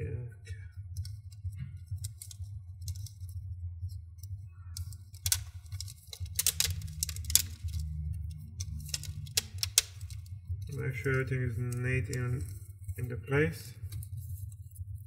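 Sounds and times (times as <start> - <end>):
steady low hum: 0.0 - 15.0
plastic sheet crackling and clicking: 0.9 - 15.0.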